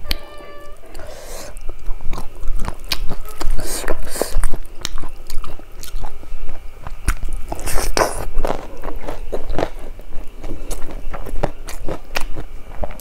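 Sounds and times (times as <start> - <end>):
chewing and lip smacking: 1.0 - 13.0.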